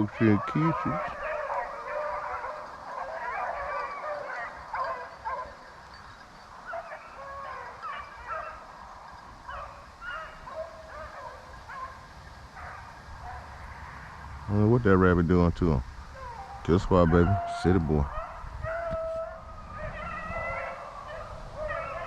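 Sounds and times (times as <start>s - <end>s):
distant hounds baying: 0.0s - 22.0s.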